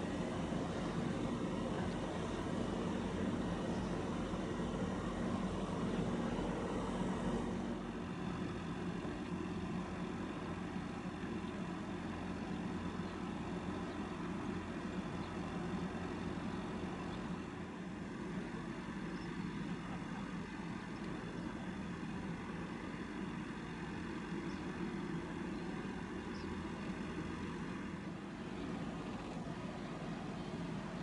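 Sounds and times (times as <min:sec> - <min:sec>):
constant hiss: 0:00.0 - 0:31.0
low engine rumble: 0:00.0 - 0:31.0.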